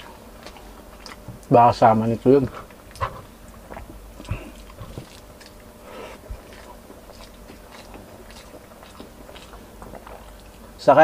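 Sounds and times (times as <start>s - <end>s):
person chewing food: 0.0s - 1.5s, 2.1s - 10.8s.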